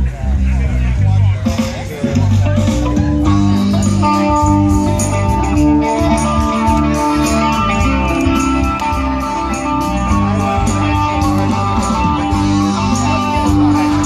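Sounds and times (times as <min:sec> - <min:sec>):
bass guitar: 0:00.0 - 0:14.0
guitar: 0:00.0 - 0:14.0.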